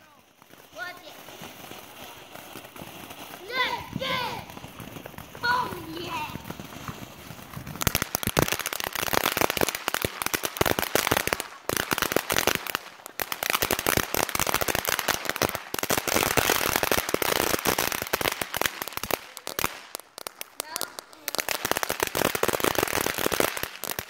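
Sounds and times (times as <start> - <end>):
firework crackling: 0.0 - 24.0.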